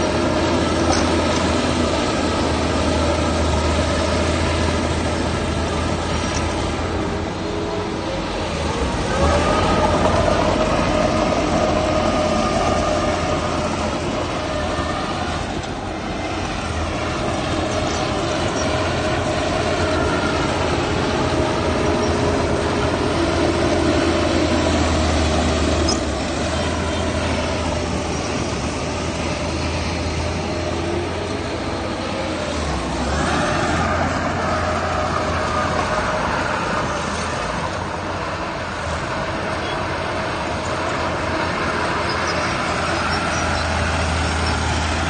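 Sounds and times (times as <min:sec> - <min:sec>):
engine whine: 0:00.0 - 0:45.0
heavy diesel machinery engine: 0:00.0 - 0:45.0.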